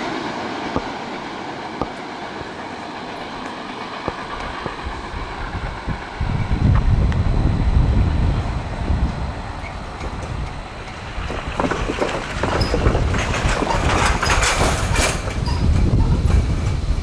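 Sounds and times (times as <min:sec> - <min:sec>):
train wheels clicking on rails: 0:00.0 - 0:17.0.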